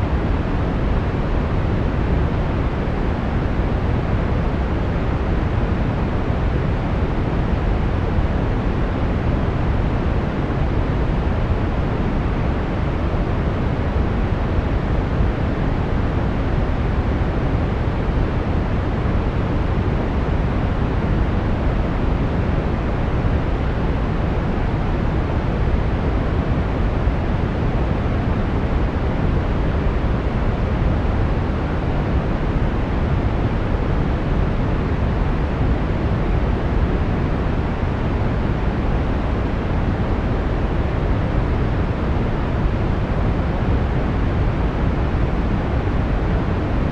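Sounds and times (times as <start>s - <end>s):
brown noise: 0.0s - 46.9s.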